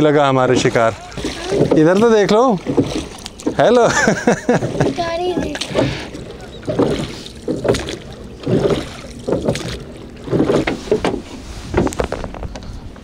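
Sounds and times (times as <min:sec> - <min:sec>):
oars rowing in water: 0:00.0 - 0:13.0.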